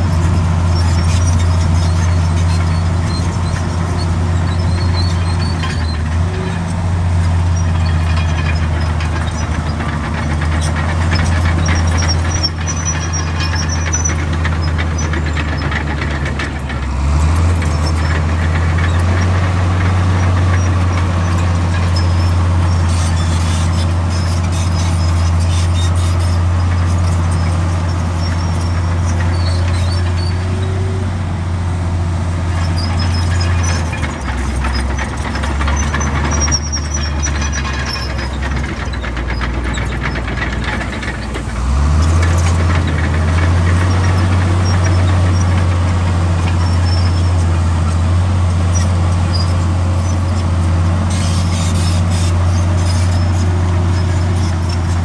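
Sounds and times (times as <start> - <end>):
short high squeaks: 0.0 - 31.0, 32.5 - 55.0
heavy diesel machinery running: 0.0 - 55.0.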